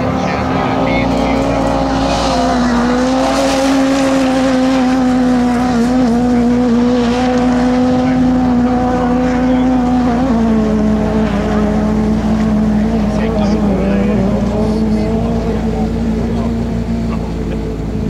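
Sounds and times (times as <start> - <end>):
car sliding across loose dirt: 0.0 - 17.2
rally car engine at high revs: 0.0 - 18.0.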